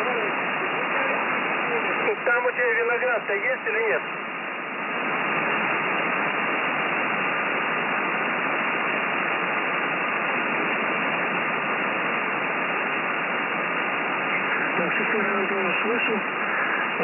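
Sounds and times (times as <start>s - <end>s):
radio receiver hiss: 0.0s - 17.0s.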